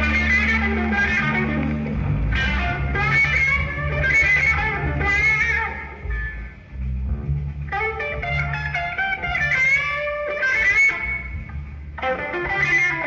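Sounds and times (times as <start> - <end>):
bass line: 0.0 - 13.0
electric guitar bending notes: 0.0 - 13.0
live blues-rock band playing: 0.0 - 13.0.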